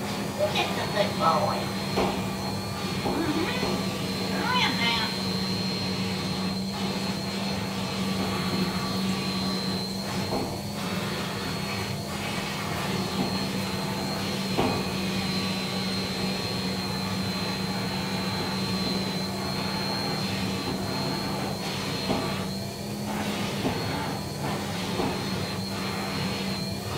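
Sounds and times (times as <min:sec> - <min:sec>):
vacuum cleaner running: 0:00.0 - 0:26.9.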